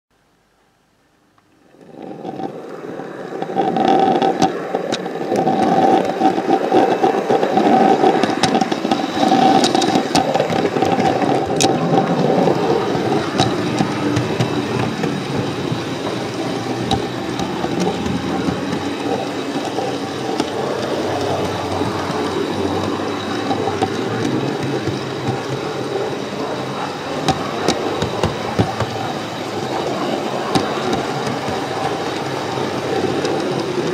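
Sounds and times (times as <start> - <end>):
model train motor and gear whine: 1.4 - 33.9
wheels clicking over rail joints: 1.4 - 33.9.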